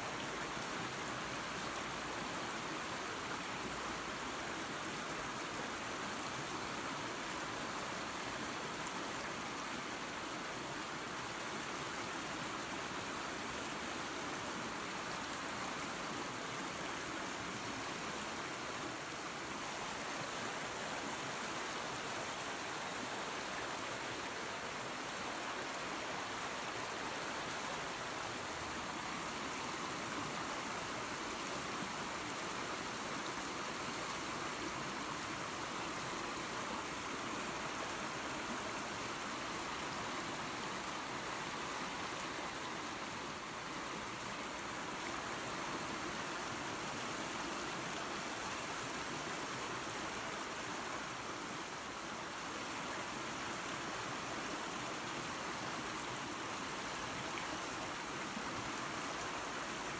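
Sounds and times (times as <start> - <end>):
waterfall and creek rushing: 0.0 - 59.9.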